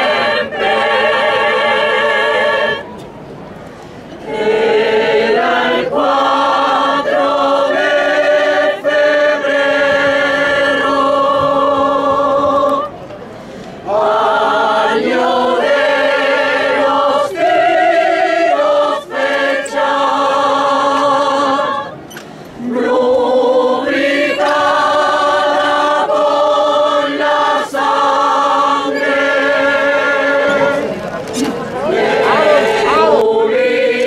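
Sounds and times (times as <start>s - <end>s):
choir singing long held notes: 0.0s - 3.0s, 3.8s - 34.0s.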